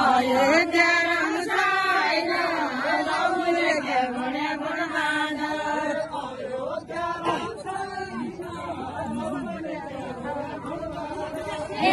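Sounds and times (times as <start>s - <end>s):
women singing together: 0.0s - 11.9s.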